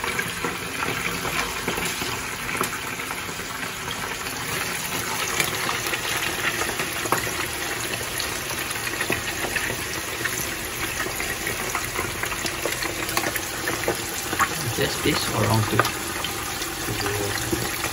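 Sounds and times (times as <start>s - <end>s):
fish deep-frying in hot oil: 0.0s - 17.9s.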